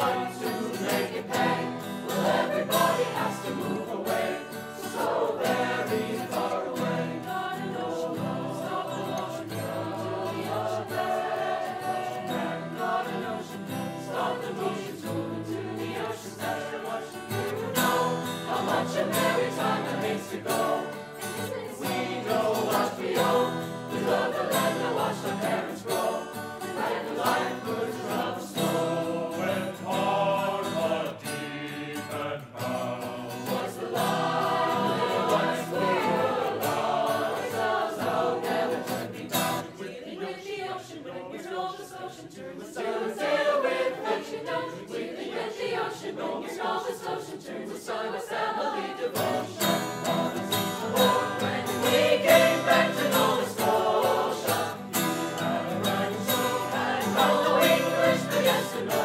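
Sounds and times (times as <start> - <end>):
strummed acoustic guitar: 0.0 - 39.8, 49.0 - 59.0
choir singing in harmony: 0.0 - 59.0.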